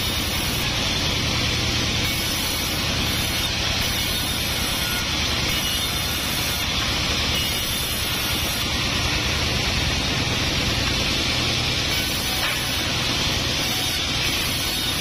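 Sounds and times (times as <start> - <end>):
band saw whirring: 0.0 - 15.0.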